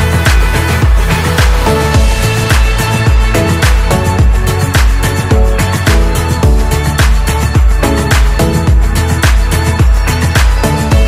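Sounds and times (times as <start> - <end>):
held chords: 0.0 - 11.0
kick drum beat: 0.0 - 11.0.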